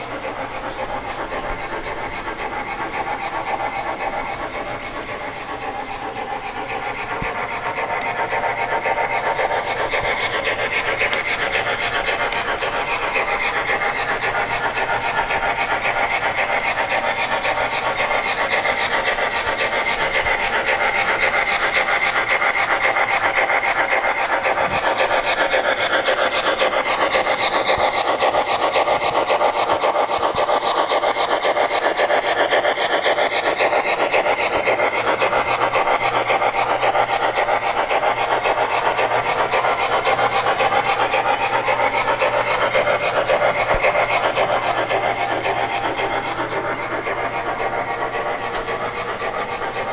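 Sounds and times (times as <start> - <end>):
steam locomotive chuffing: 0.0 - 49.9.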